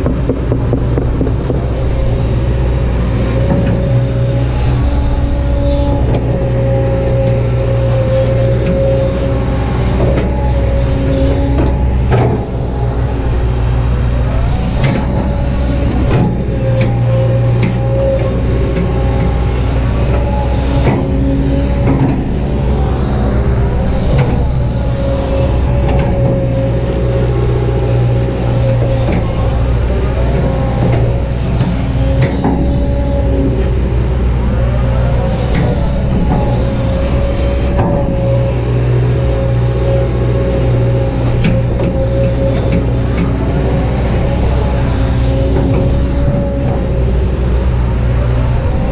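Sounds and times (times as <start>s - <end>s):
excavator diesel engine running: 0.0s - 48.9s
hydraulic whine: 0.0s - 48.9s.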